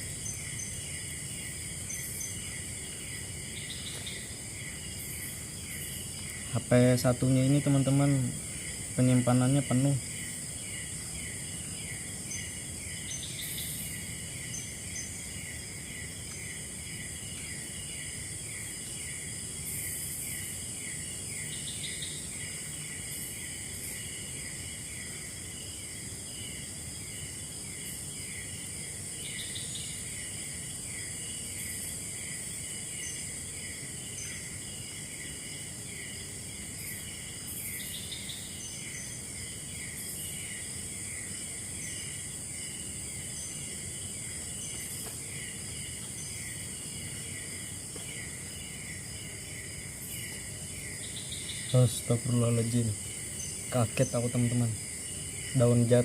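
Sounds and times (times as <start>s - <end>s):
high-pitched insect drone: 0.0s - 56.0s
insect call bursts: 0.0s - 56.0s
rhythmic insect chirping: 0.0s - 56.0s.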